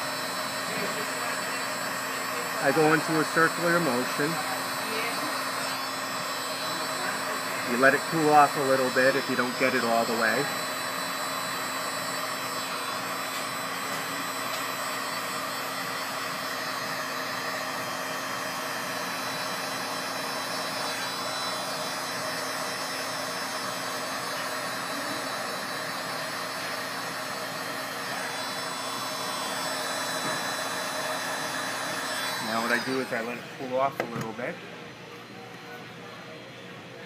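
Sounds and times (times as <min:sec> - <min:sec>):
heat gun blowing air: 0:00.0 - 0:33.4.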